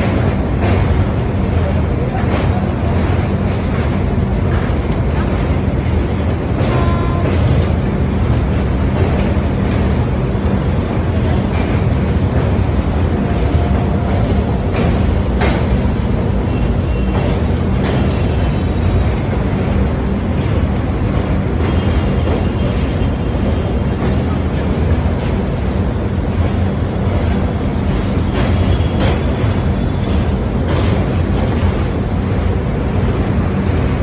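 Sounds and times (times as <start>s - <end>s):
train wheels rumbling on bridge: 0.0s - 34.0s.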